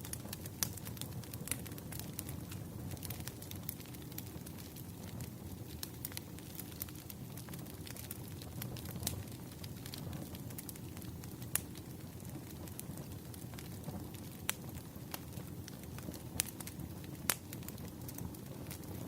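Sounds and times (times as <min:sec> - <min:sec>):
burning wood crackling and popping: 0:00.0 - 0:19.0
campfire flames rumbling: 0:00.0 - 0:19.0.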